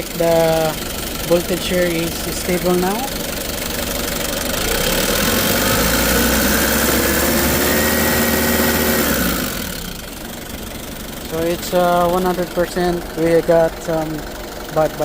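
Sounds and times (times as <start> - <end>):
forklift diesel engine revving: 0.0 - 15.0.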